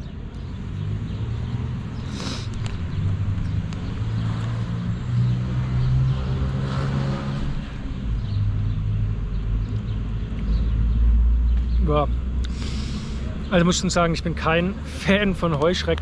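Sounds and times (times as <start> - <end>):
city traffic rumble: 0.0 - 16.0
vehicle passing: 0.3 - 16.0.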